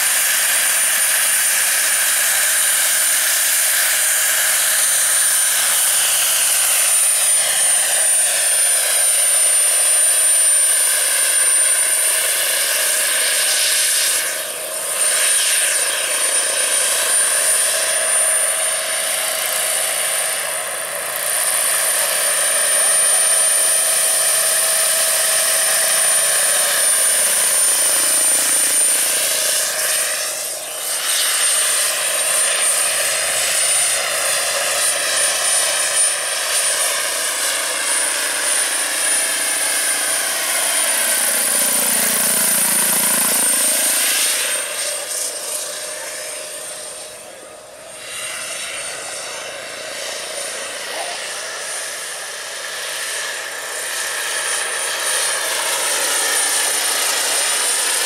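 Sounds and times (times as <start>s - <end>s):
high-pitched turbine whistle: 0.0s - 58.0s
rotor blades rushing: 0.0s - 58.0s.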